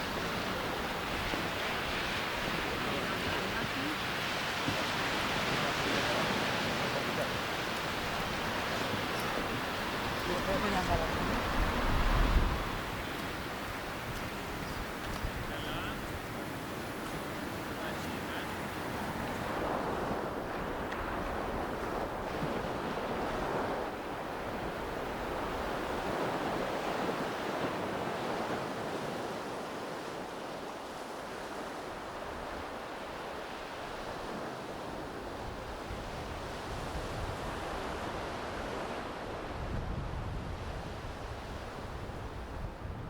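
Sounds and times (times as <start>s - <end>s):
small waves washing on beach: 0.0s - 43.0s
wind rumble on microphone: 0.0s - 43.0s.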